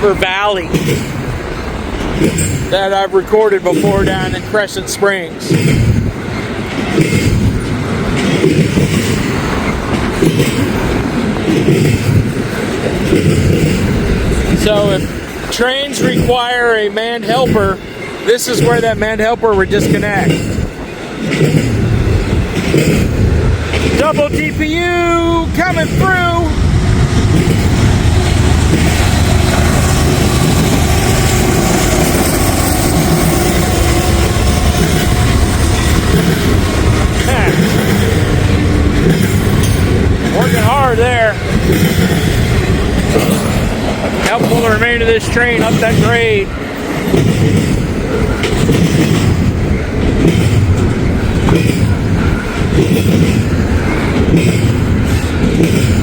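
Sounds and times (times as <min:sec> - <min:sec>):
diesel locomotives working hard: 0:00.0 - 0:56.0
train cars rolling on rails: 0:00.0 - 0:56.0
wind buffeting microphone: 0:05.4 - 0:16.4, 0:17.3 - 0:56.0.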